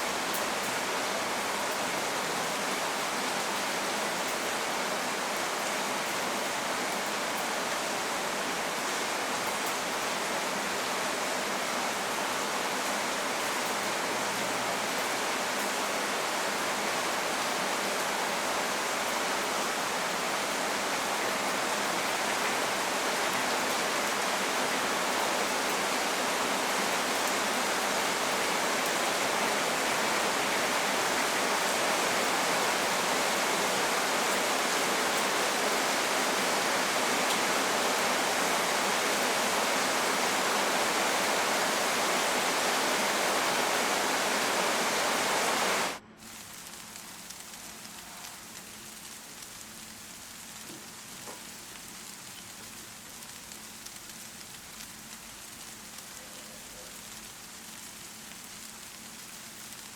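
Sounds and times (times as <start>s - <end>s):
rainstorm: 0.0s - 59.9s.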